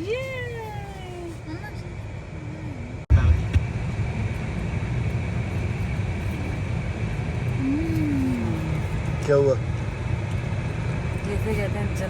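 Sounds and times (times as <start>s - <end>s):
car driving rumble from inside: 0.0s - 12.0s.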